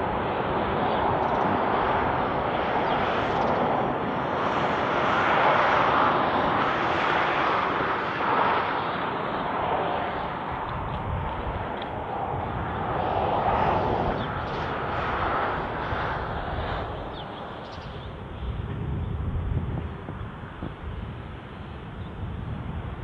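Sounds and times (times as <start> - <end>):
distant diesel locomotive drone: 0.0 - 23.0.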